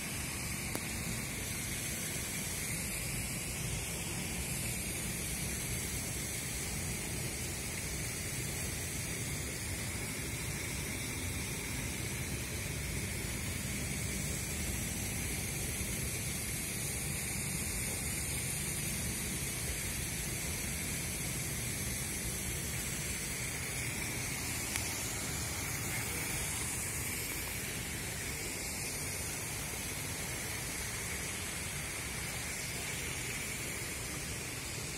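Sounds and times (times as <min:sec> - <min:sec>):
steady rushing noise: 0:00.0 - 0:34.9.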